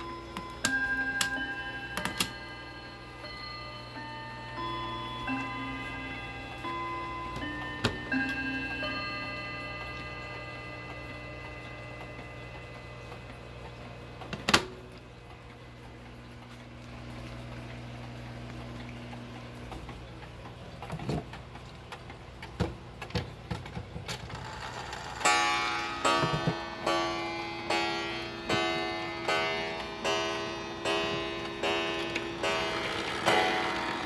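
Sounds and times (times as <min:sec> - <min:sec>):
clock chime ringing: 0:00.0 - 0:20.8, 0:24.4 - 0:34.0
clock hands clicking: 0:00.0 - 0:23.3, 0:24.4 - 0:34.0.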